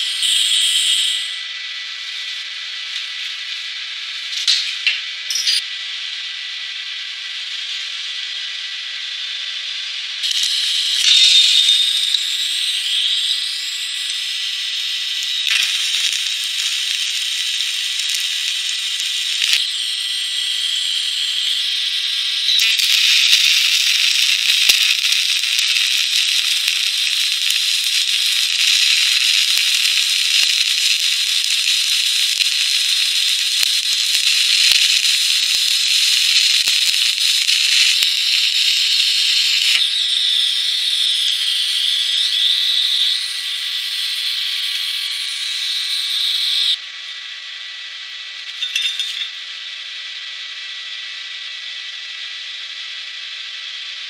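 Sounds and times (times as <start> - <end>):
welding arc crackling hiss: 0.0 - 5.6, 10.2 - 46.8, 48.4 - 49.6
faint high whine: 0.0 - 54.0.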